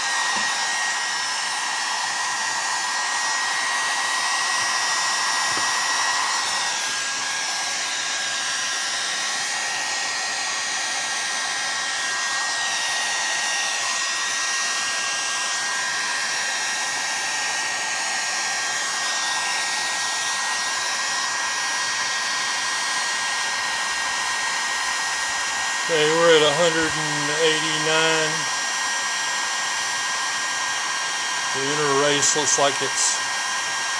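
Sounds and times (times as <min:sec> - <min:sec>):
heat gun blowing hiss: 0:00.0 - 0:33.9.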